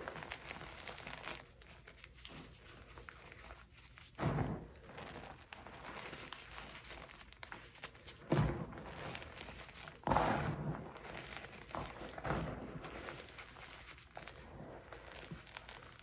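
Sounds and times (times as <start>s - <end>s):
hands crushing chalk powder: 0.0s - 16.0s.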